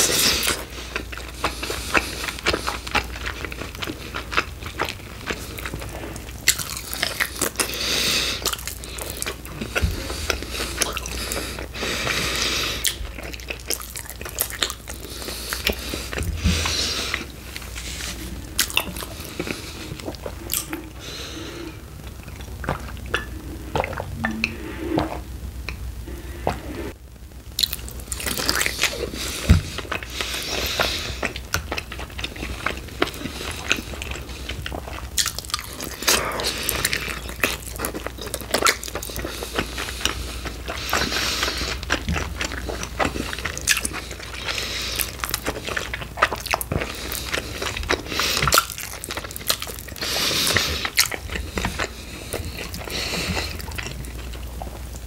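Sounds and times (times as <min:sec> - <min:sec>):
biting and chewing crunches: 0:00.0 - 0:21.3, 0:27.6 - 0:55.0.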